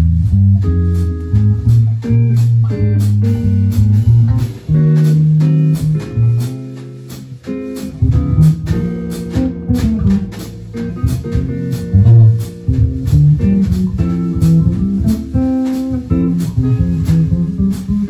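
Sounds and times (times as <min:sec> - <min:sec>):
drums cymbal time: 0:00.0 - 0:18.0
guitar: 0:00.0 - 0:18.0
walking bass line: 0:00.0 - 0:18.0.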